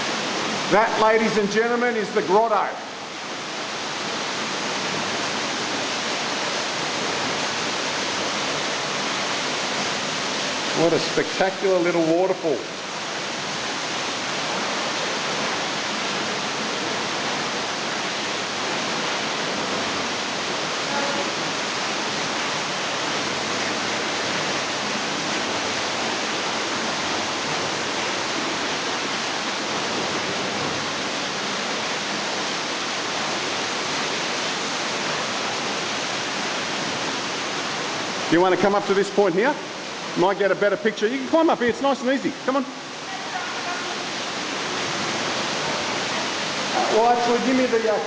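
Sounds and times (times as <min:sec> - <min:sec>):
small waterfall rushing: 0:00.0 - 0:48.0.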